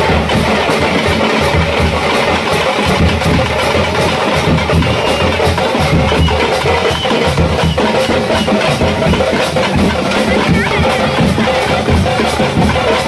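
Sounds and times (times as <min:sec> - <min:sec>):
loud fast drumming: 0:00.0 - 0:13.0.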